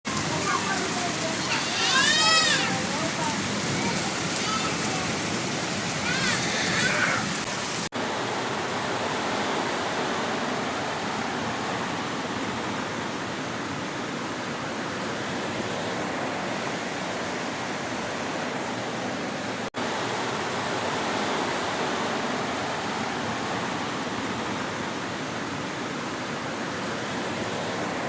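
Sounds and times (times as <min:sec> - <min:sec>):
heavy storm rain: 0:00.0 - 0:28.0
running water: 0:00.1 - 0:28.0.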